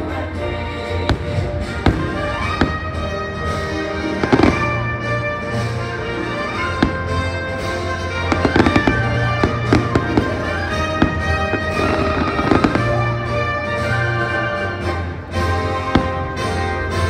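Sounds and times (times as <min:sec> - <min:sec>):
fireworks bangs and crackles: 0:00.0 - 0:17.0
loud show music: 0:00.0 - 0:17.0.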